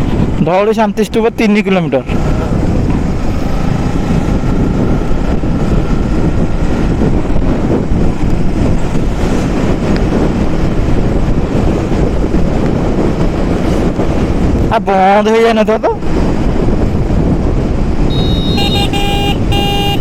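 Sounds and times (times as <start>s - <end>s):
motorcycle running: 0.0s - 20.0s
road noise: 0.0s - 20.0s
wind buffeting microphone: 0.0s - 20.0s.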